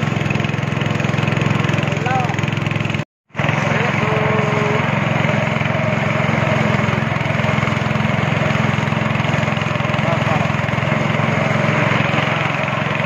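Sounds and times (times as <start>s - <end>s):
speedboat engine running: 0.0s - 13.0s.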